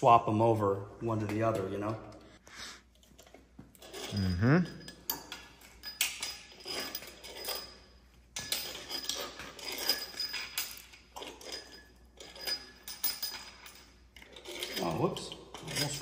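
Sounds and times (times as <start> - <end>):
metal tools clinking and scraping: 3.0 - 16.0.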